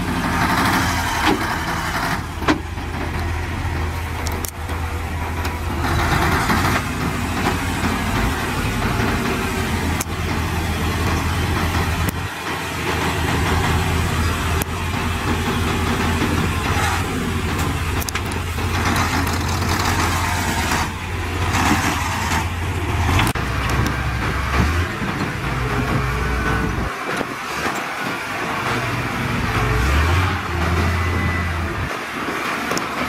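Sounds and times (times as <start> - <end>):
heavy machine diesel engine running: 0.0 - 33.0.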